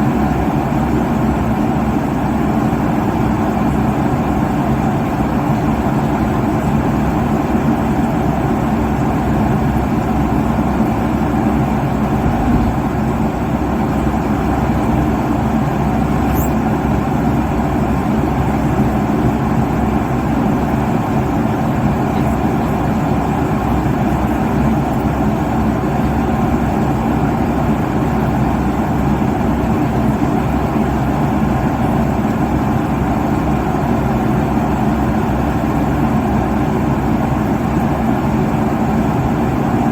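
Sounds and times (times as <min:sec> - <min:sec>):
airliner cabin roar: 0:00.0 - 0:33.2.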